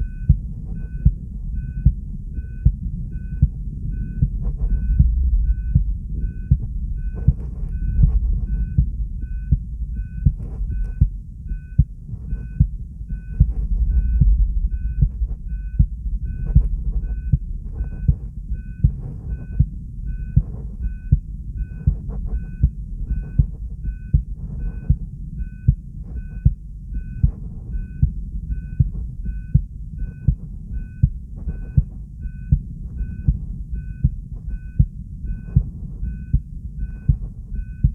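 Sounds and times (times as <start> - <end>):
faint even beeping: 0.0 - 37.9
heartbeat: 0.0 - 37.9
low rumble: 0.0 - 37.9.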